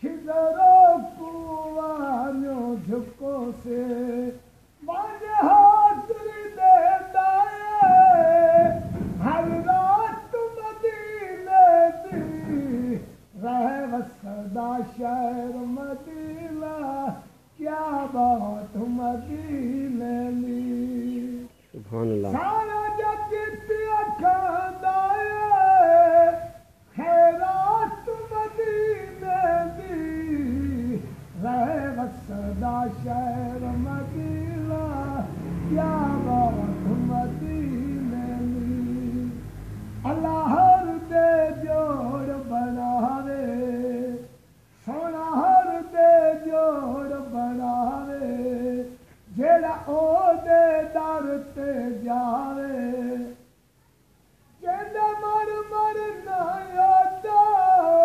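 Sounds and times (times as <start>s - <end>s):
man singing solo: 0.0s - 53.4s.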